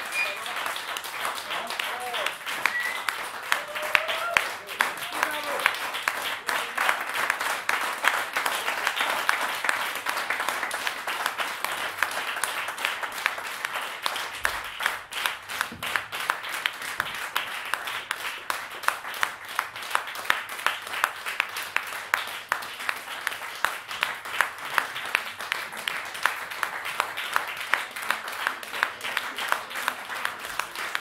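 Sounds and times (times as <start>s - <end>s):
audience applause: 0.0s - 31.0s.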